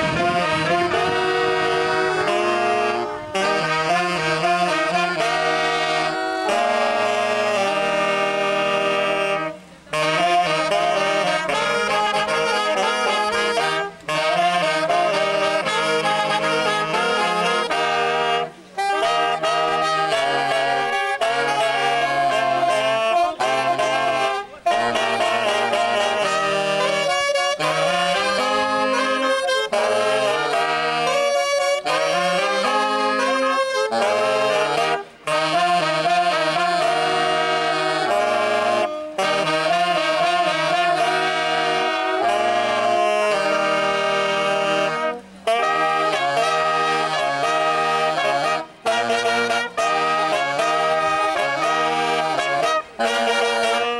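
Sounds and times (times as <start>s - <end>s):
band accompaniment with bass line: 0.0s - 53.9s
saxophone melody: 0.0s - 53.9s.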